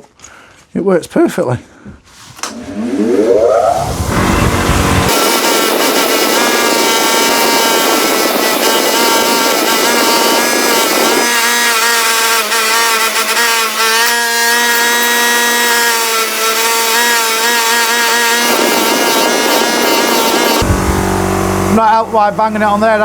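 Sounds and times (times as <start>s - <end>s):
motor whine: 2.3s - 15.9s, 16.5s - 23.0s.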